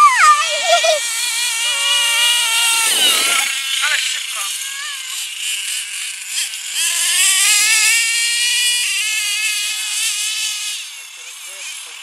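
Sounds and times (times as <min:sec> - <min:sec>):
nitro engine buzzing whine: 0:00.0 - 0:12.0.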